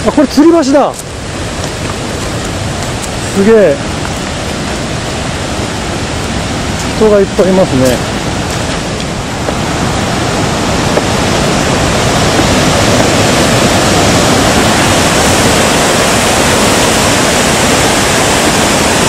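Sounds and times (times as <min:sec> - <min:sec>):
water roaring over a weir: 0:00.0 - 0:19.0.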